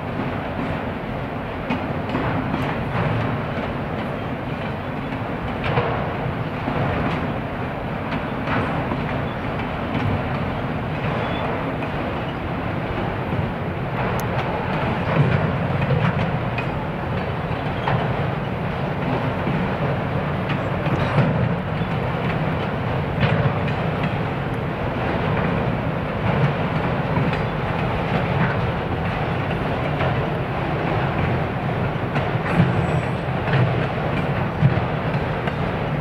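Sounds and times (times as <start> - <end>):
train cars rumbling past: 0.0 - 36.0
wheels clacking over rail joints: 0.0 - 36.0.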